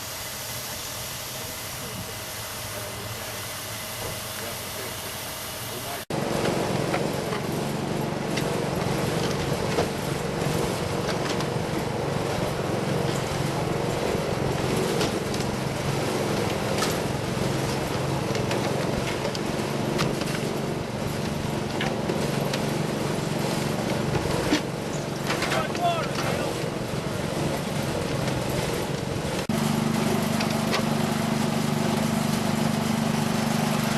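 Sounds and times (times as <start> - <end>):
engine drone: 0.0 - 33.9.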